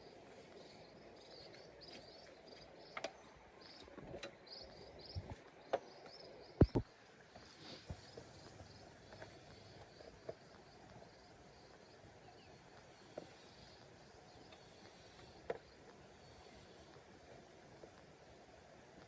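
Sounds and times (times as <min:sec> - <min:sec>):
faint insect chirping: 0:00.0 - 0:19.0.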